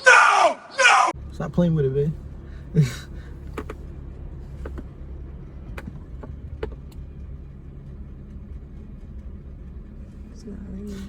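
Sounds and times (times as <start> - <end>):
car engine running: 1.2 - 11.0.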